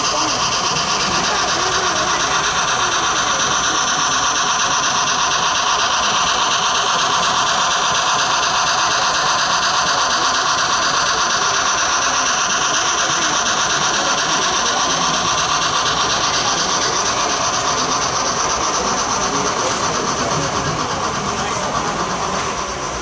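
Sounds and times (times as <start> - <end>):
hall noise: 0.0 - 23.0
model steam locomotive chuffing: 0.0 - 23.0.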